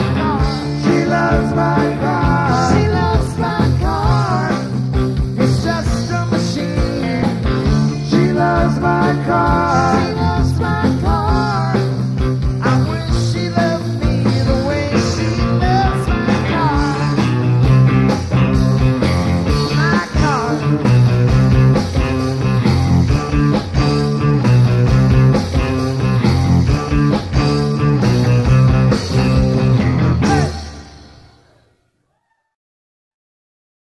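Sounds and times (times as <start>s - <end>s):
sliding lead guitar line: 0.0s - 31.2s
bass: 0.0s - 31.5s.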